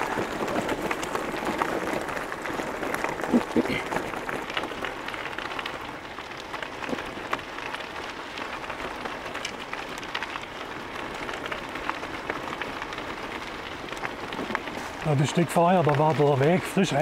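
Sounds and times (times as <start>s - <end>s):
bicycle tyres crunching on gravel: 0.0s - 17.0s
loose stones ticking: 0.0s - 17.0s.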